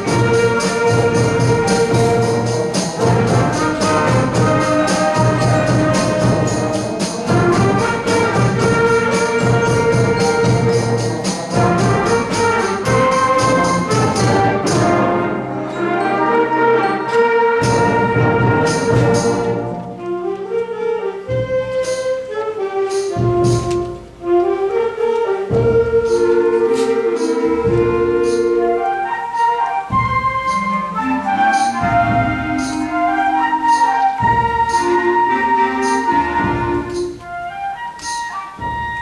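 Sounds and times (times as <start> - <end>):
percussion beat: 0.0 - 16.0, 17.5 - 19.8, 21.3 - 22.3, 22.9 - 24.3, 25.5 - 39.0
concert band playing: 0.0 - 39.0.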